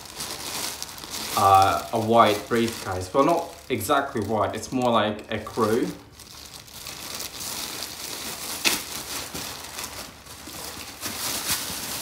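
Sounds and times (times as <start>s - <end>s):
plastic packaging crinkling: 0.0s - 12.0s
sharp plastic crackle: 0.0s - 12.0s.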